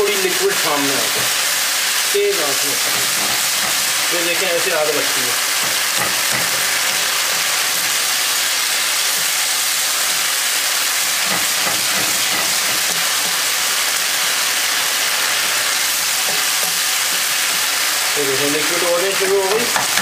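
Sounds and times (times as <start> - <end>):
food sizzling in a frying pan: 0.0 - 20.0
spatula scraping a pan: 2.4 - 10.4, 11.1 - 20.0.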